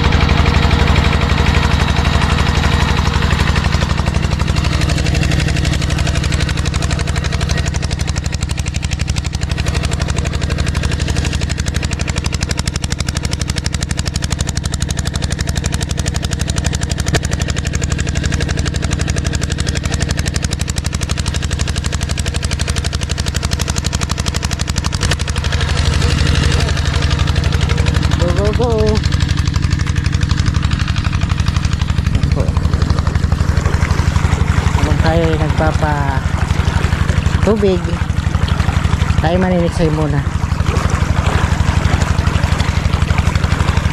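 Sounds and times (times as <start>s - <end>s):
small diesel engine running: 0.0s - 43.9s.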